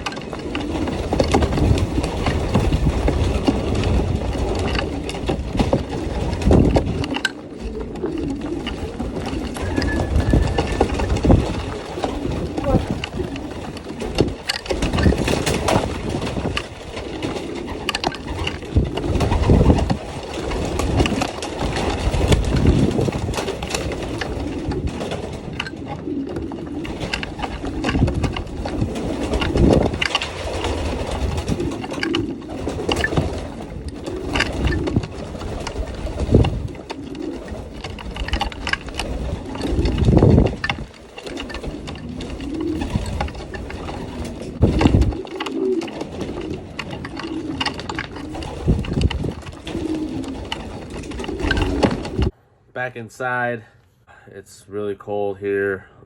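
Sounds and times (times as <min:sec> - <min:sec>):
pigeons cooing: 0:00.0 - 0:52.3.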